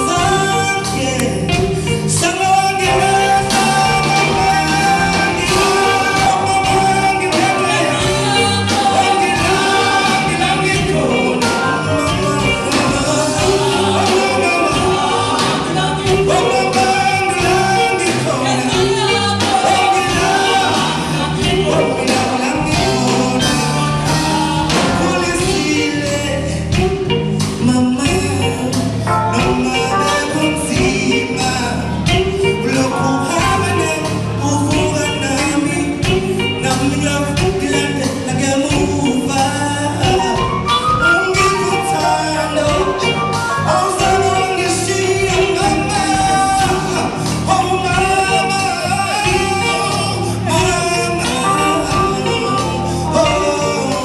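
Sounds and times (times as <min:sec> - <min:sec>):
drums: 0:00.0 - 0:54.0
electric guitar: 0:00.0 - 0:54.0
keyboard: 0:00.0 - 0:54.0
male singer with live band: 0:00.0 - 0:54.0.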